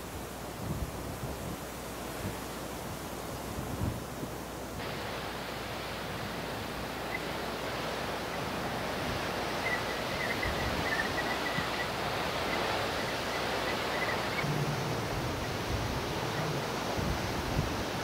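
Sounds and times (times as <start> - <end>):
wind rustling through grass: 0.0 - 18.0.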